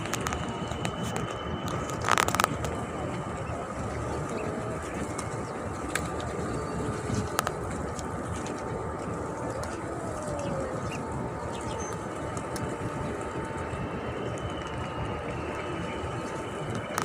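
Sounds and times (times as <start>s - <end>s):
outdoor background hubbub: 0.0s - 17.0s.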